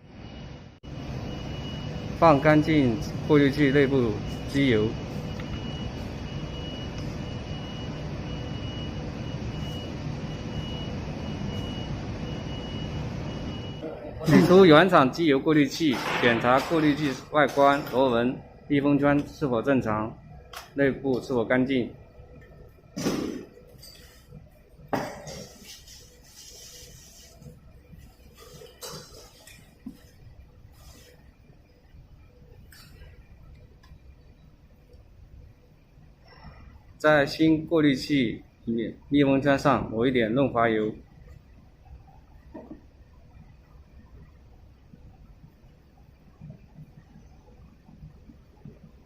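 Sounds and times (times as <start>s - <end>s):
machinery drone with low hum: 0.0s - 49.0s.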